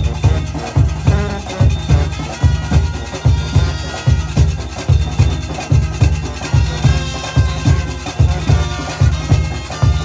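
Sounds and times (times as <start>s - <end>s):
heavy drums beating: 0.0s - 10.0s.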